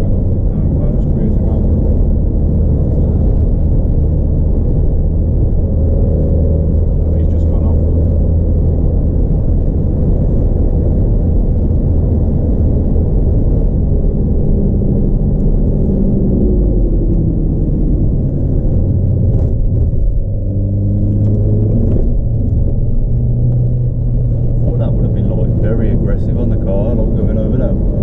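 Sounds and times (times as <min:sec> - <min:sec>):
car engine: 0:00.0 - 0:28.0
tyre and road rumble: 0:00.0 - 0:28.0.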